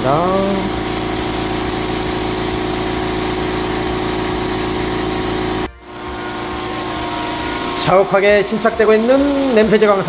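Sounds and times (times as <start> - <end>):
constant machine hum: 0.0 - 10.0
drum fan blowing: 0.0 - 10.0
nozzle spraying mist: 0.0 - 10.0.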